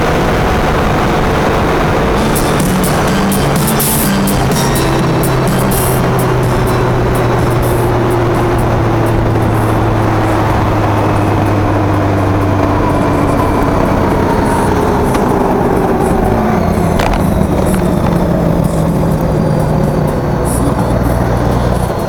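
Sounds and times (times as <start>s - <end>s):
car road and engine noise: 0.0s - 22.0s
hum falling in pitch: 0.0s - 22.0s.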